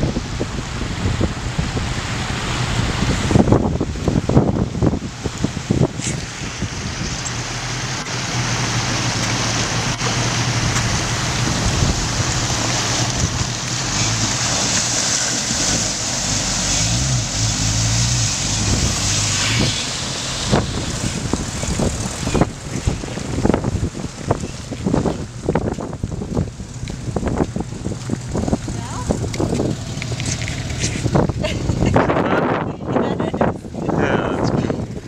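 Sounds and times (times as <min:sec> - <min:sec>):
car engine running: 0:00.0 - 0:35.0
rushing water: 0:00.0 - 0:35.0
wind noise on microphone: 0:00.0 - 0:35.0.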